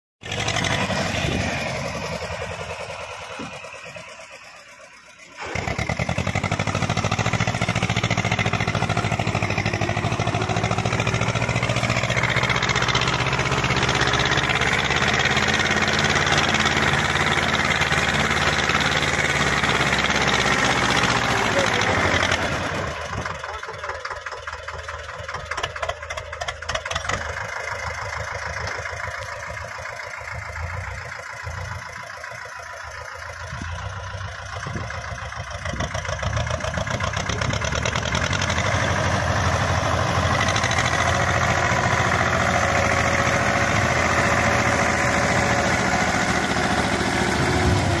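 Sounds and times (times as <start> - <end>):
tractor diesel engine under load: 0.2 - 48.0.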